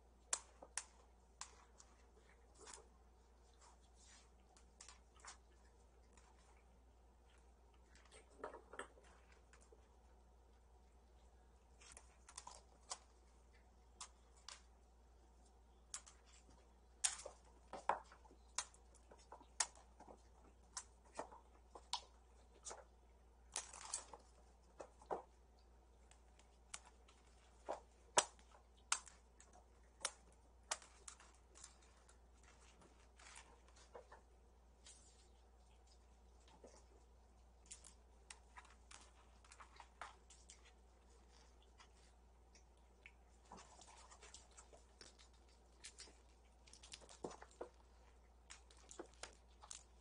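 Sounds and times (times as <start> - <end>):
kitten paws and claws on floor: 0.0 - 50.0.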